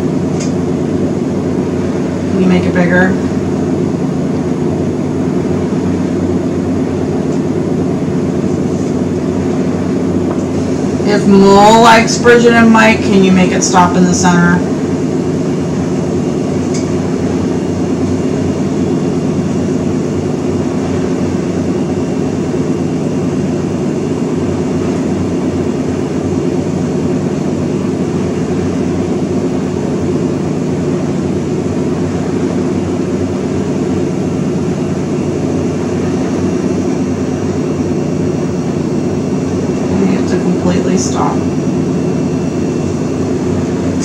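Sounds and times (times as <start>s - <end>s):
low mechanical drone: 0.0s - 44.0s.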